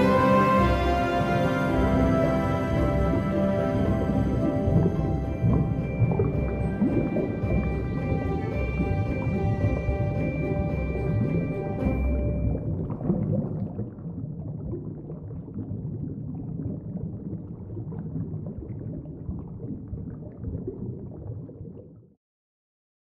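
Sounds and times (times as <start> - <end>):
muffled underwater rumble: 0.0 - 22.2.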